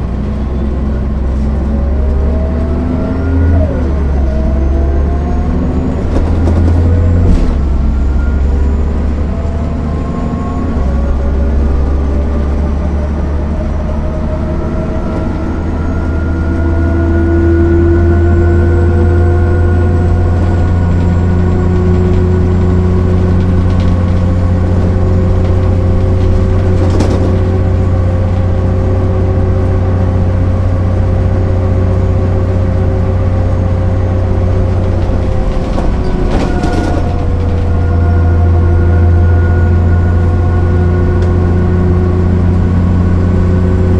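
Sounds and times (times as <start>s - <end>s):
bus diesel engine pulling under load: 0.0s - 43.9s.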